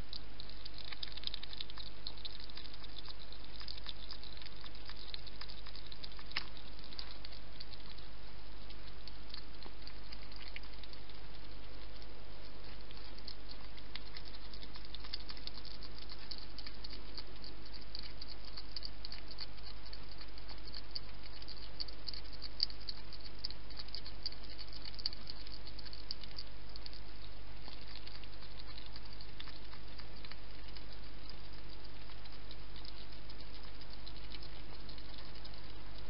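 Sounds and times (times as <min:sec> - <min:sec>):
hedgehog smacking and crunching: 0:00.0 - 0:36.0
low hum: 0:00.0 - 0:36.0.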